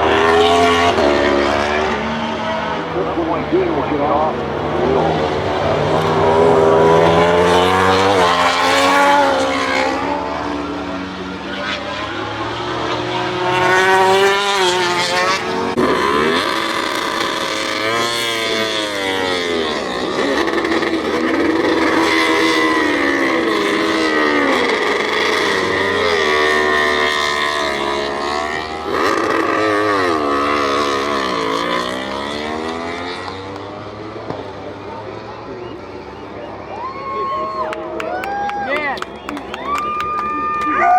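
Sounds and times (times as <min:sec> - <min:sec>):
racing motorcycles passing: 0:00.0 - 0:40.9.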